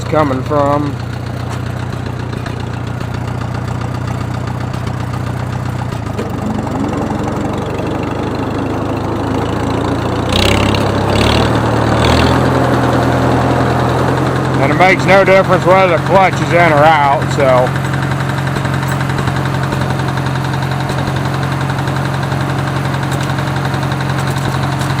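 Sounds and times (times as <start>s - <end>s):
tractor engine running with a knock: 0.0s - 25.0s.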